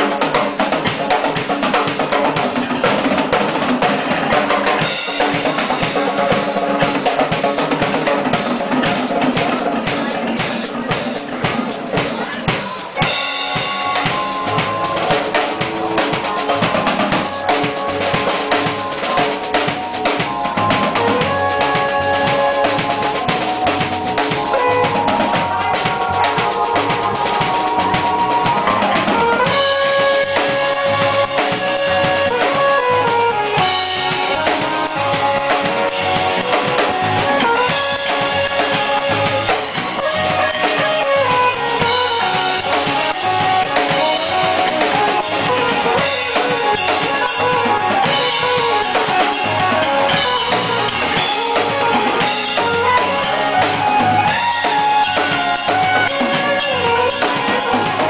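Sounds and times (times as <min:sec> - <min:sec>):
drum kit beat: 0:00.0 - 0:58.0
sliding melodic lead line: 0:00.0 - 0:58.0.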